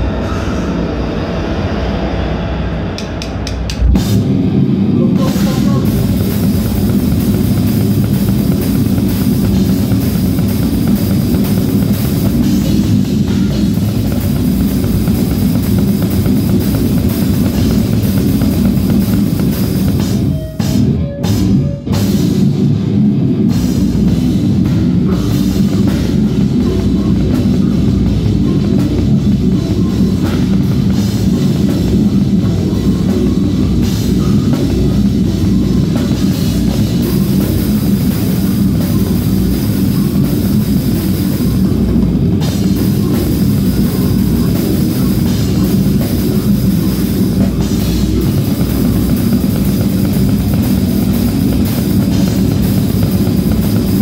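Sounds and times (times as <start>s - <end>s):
death metal band playing: 0.0s - 54.0s
distorted guitars: 0.0s - 54.0s
drum kit with cymbals: 0.0s - 54.0s.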